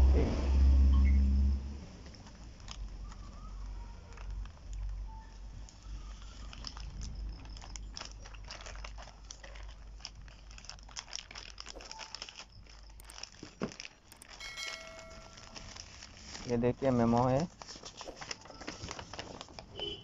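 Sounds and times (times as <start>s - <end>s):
plastic bag crinkling: 1.9s - 20.0s.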